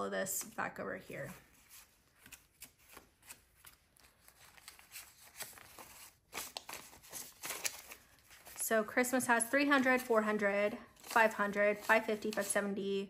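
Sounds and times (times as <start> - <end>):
banknotes rustling: 1.2 - 13.0.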